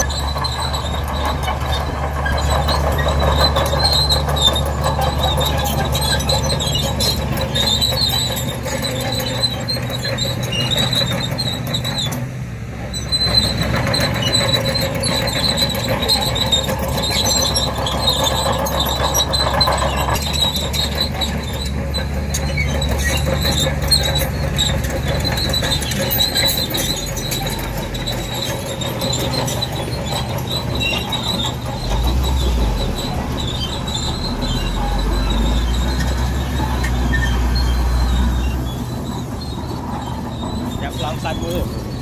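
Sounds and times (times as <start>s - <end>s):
diesel engine rumble: 0.0s - 42.0s
steel crawler tracks squealing: 0.0s - 42.0s.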